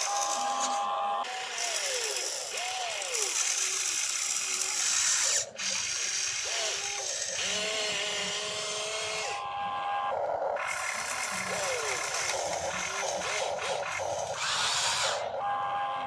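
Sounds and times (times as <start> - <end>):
gears grinding: 0.0 - 16.0
toy electric motors whining: 0.0 - 16.0.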